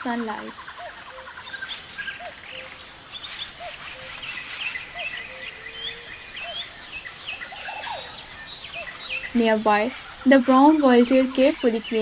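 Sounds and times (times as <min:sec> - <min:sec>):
birds chirping and whistling: 0:00.0 - 0:12.0
high insect trill: 0:00.0 - 0:12.0
low repeated bird call: 0:00.0 - 0:12.0.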